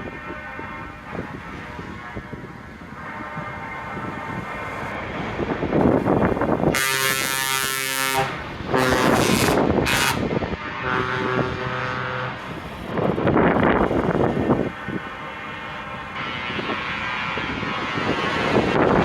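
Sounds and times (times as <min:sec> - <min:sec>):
truck air horns blasting: 0:00.0 - 0:17.9
lorry engines running: 0:00.0 - 0:19.0.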